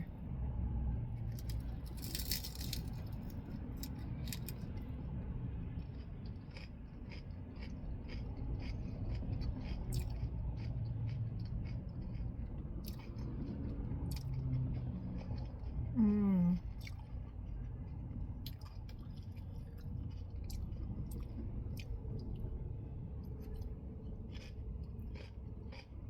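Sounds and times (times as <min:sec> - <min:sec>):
steady low rumble: 0:00.0 - 0:26.0
crisp chewing crunches: 0:01.3 - 0:05.0, 0:05.7 - 0:16.0, 0:16.6 - 0:26.0.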